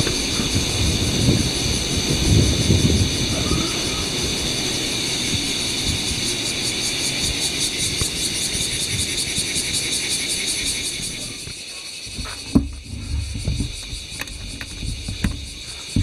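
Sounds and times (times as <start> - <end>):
cicadas buzzing: 0.0 - 16.0
wind rumble on microphone: 0.0 - 16.0.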